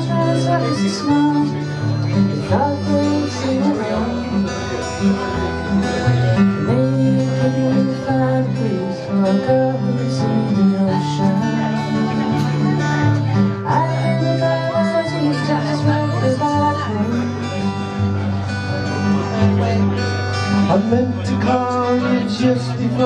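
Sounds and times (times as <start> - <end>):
acoustic guitar strumming: 0.0 - 23.0
harmonica bending notes: 0.0 - 23.0.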